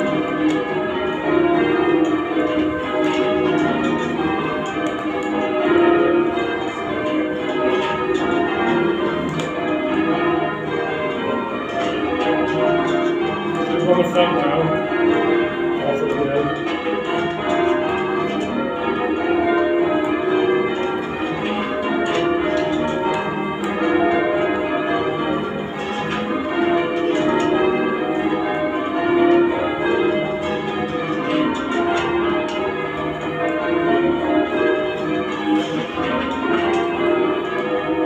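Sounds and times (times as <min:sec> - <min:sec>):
church bells change ringing: 0:00.0 - 0:38.0.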